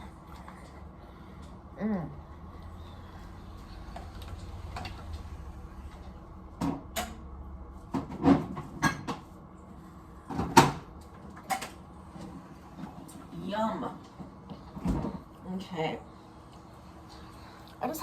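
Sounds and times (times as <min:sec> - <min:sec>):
low hum: 0:00.0 - 0:17.8.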